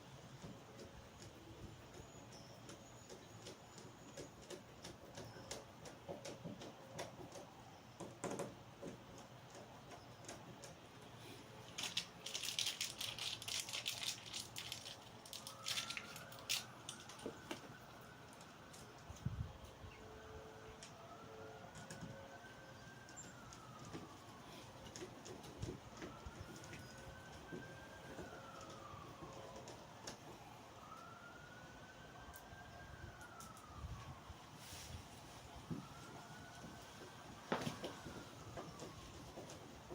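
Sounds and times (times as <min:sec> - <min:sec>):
faint wailing siren: 0:00.0 - 0:39.9.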